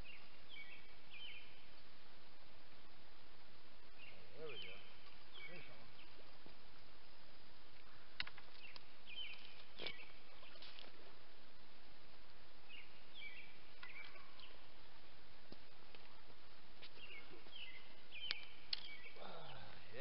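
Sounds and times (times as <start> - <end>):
birds chirping: 0.0 - 20.0
steady outdoor hiss: 0.0 - 20.0.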